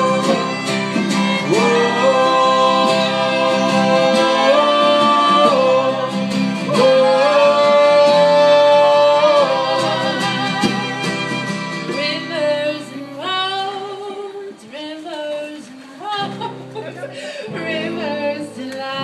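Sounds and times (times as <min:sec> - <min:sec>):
person singing long notes: 0:00.0 - 0:16.4
strummed guitar: 0:00.0 - 0:19.0.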